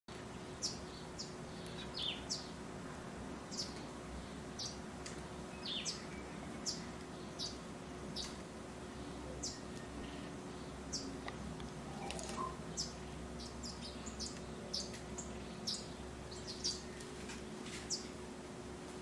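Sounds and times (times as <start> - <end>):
small birds chirping: 0.1 - 18.2
faint steady hum: 0.1 - 19.0.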